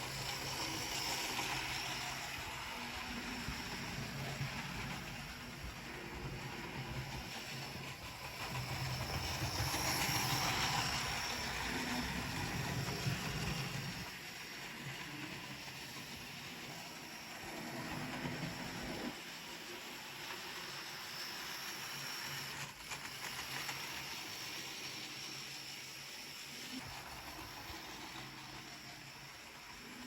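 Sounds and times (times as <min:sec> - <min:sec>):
hiss: 0:00.0 - 0:30.0
model train motor hum: 0:00.0 - 0:30.0.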